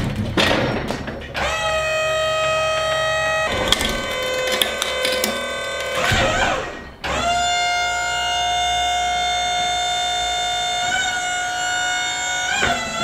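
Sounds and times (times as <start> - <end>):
sawmill hydraulics whining: 1.4 - 13.0.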